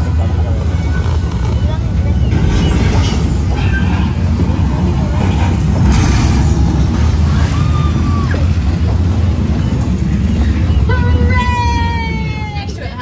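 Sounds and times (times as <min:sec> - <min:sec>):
tram running low rumble: 0:00.0 - 0:13.0.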